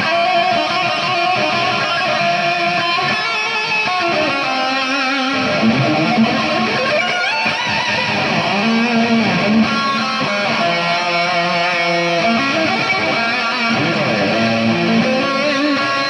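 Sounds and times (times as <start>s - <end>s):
electric guitar lead: 0.0s - 16.0s.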